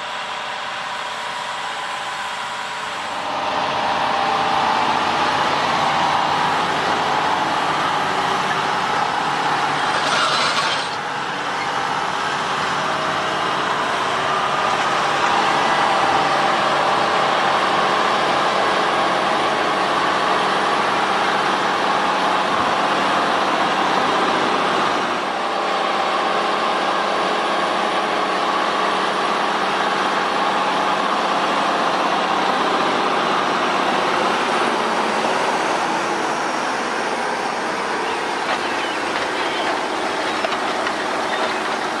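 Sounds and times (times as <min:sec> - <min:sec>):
diesel farm machinery droning: 0:00.0 - 0:42.0.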